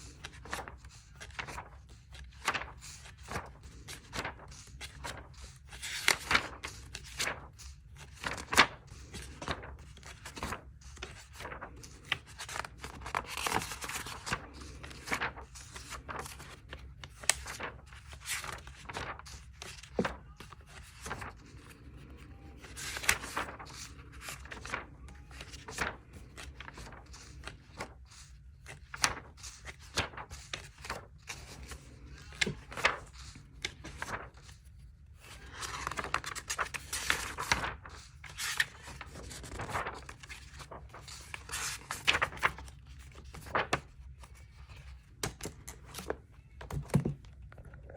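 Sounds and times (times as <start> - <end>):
paper pages rustling: 0.0 - 47.9.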